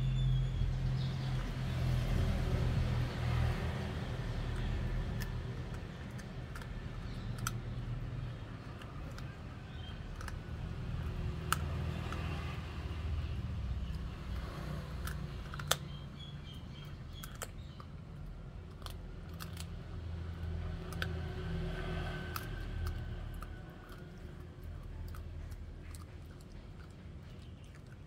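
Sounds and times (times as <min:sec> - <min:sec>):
teeth cracking on bone: 0:03.4 - 0:28.0.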